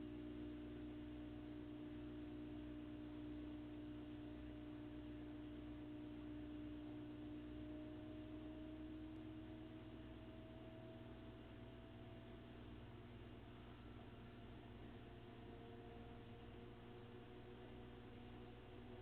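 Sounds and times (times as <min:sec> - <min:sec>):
washing machine motor hum and whine: 0:00.0 - 0:19.0.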